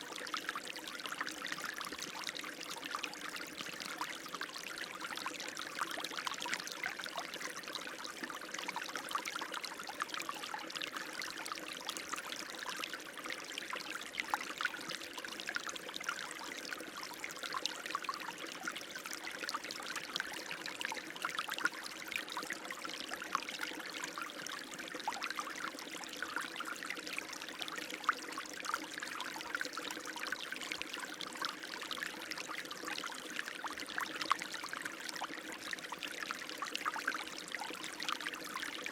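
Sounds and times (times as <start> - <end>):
stream splashing and trickling: 0.0 - 38.9.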